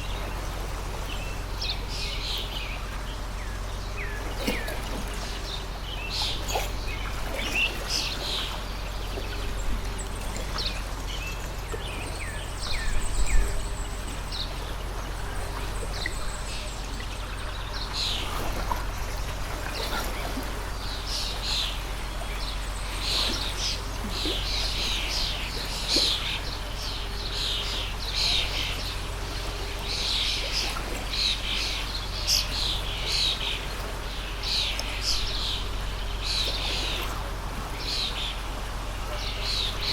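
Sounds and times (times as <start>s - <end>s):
small birds chirping: 0.0s - 39.9s
stream water running: 0.0s - 39.9s.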